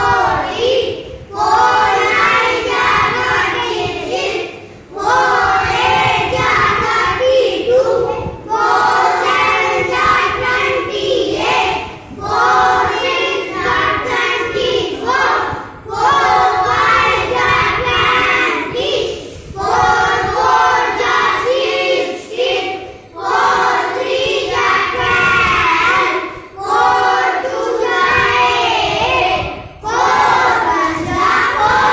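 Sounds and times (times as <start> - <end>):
children chanting in unison: 0.0 - 31.9.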